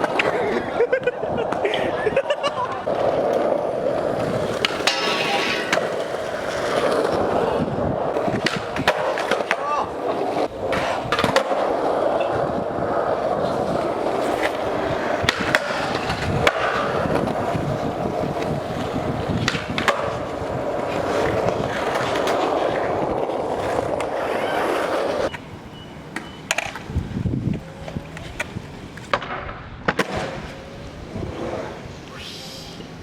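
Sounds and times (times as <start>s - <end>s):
skateboard clacks: 0.0s - 25.5s, 26.1s - 31.8s
skateboard wheels rolling on concrete: 0.0s - 33.0s.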